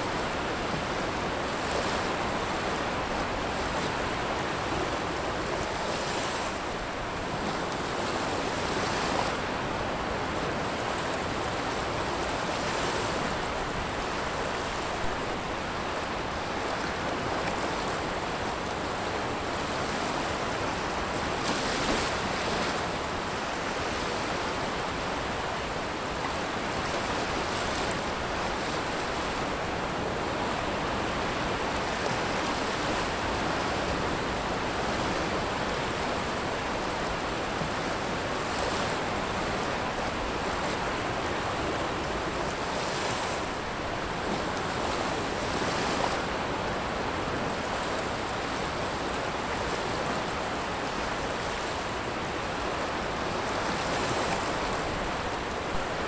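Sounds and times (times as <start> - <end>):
surf washing over pebbles: 0.0 - 56.0.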